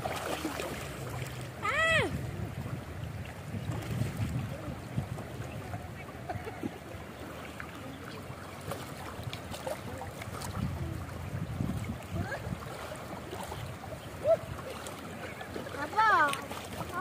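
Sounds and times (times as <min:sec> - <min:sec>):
river water lapping: 0:00.0 - 0:17.0.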